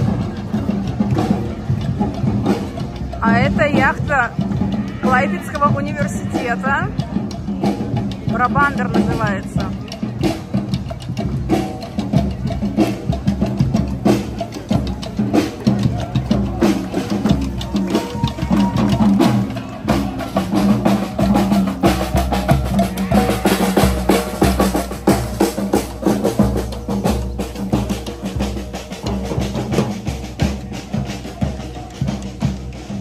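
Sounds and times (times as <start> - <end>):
marching snare drums: 0.0 - 33.0.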